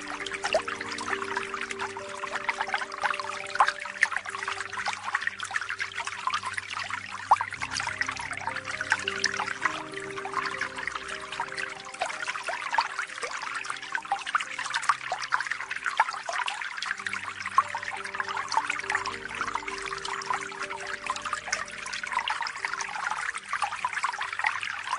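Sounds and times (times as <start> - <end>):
soft new-age music: 0.0 - 24.9
water trickling and splashing: 0.0 - 24.9.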